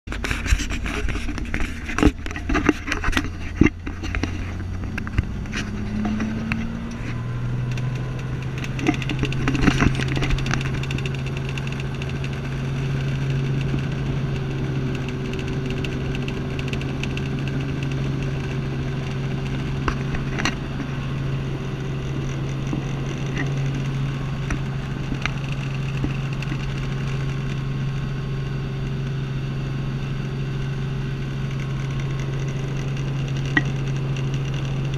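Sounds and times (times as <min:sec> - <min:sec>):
helicopter engine and rotor hum: 0:00.1 - 0:34.9.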